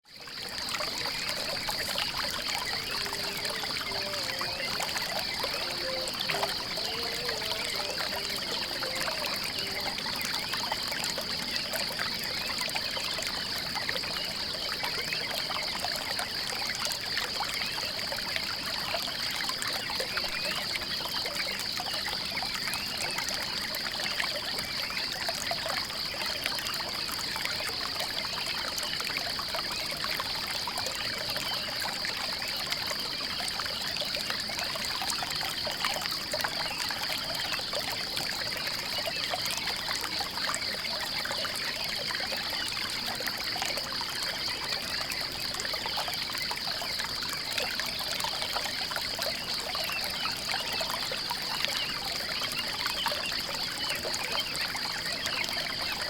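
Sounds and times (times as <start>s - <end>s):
stream babbling over stones: 0.1s - 56.0s.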